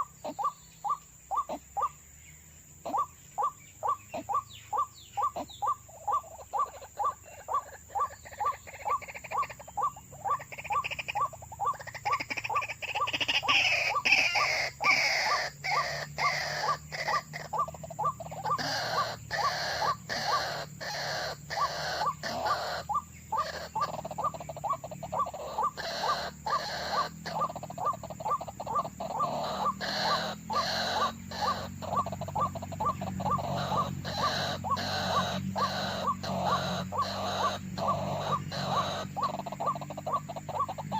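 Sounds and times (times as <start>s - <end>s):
bird call rising and falling: 2.8s - 40.9s.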